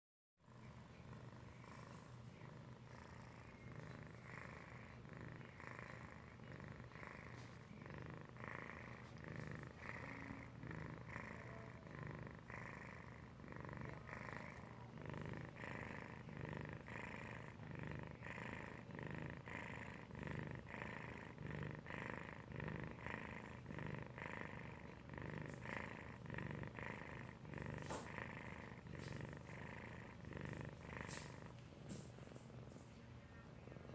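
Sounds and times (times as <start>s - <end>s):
cat purring and snoring: 0.4s - 33.9s.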